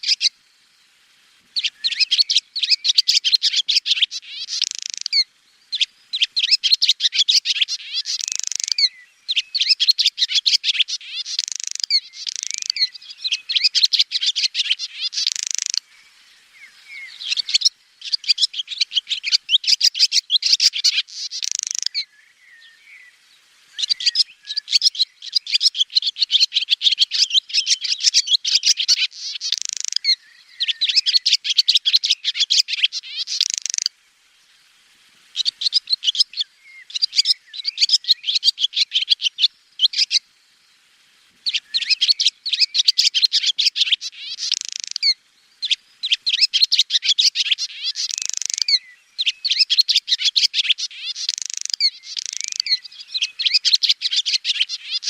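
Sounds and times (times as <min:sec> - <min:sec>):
swallow twittering: 0:00.0 - 0:00.4, 0:01.6 - 0:33.9, 0:35.3 - 0:40.2, 0:41.4 - 0:55.0.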